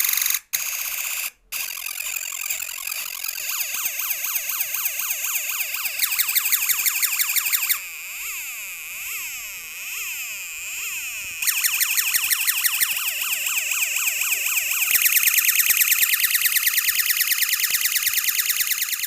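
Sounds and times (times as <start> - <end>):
electronic siren tones: 0.8 - 19.0
warbling alarm tone: 0.9 - 19.0.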